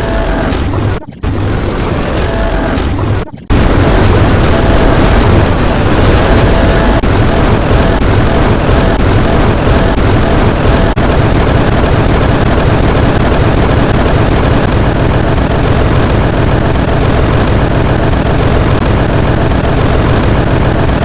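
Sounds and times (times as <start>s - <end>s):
loud harsh noise: 0.0s - 21.0s.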